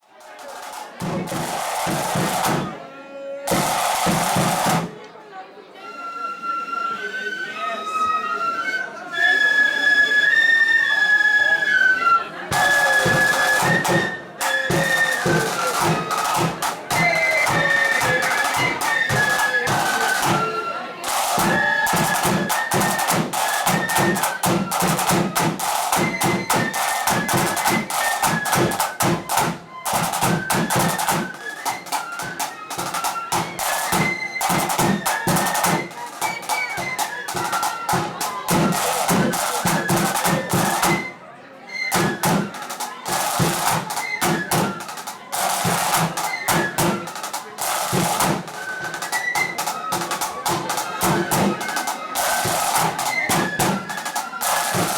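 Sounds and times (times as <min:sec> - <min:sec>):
rapid heavy drumming: 0:00.2 - 0:02.8, 0:03.5 - 0:05.0, 0:12.5 - 0:41.1, 0:41.9 - 0:54.9
flutes playing melody: 0:01.4 - 0:04.9, 0:05.7 - 0:54.9.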